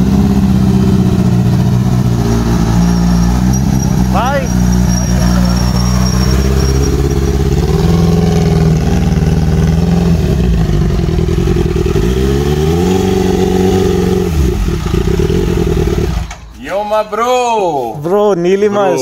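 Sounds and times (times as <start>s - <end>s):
motorcycle engine revving: 0.0s - 16.4s.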